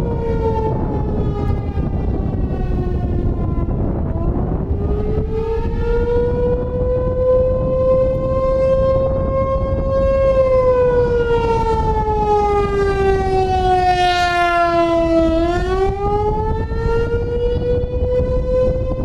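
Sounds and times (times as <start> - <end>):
wavering warning siren: 0.0 - 19.0.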